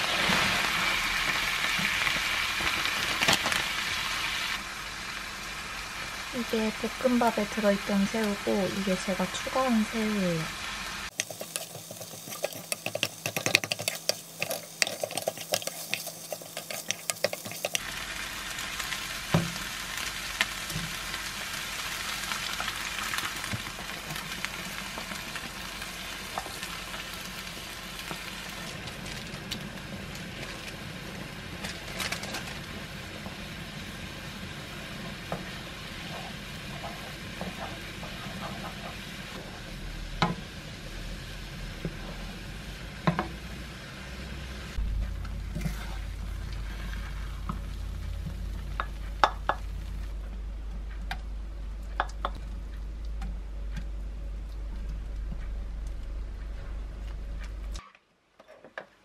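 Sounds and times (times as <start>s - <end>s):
rice sizzling in a frying pan: 0.0s - 50.2s.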